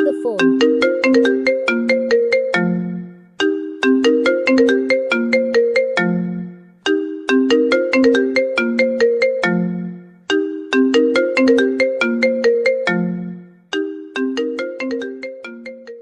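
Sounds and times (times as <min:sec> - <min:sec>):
mobile phone ringtone melody: 0:00.0 - 0:16.0.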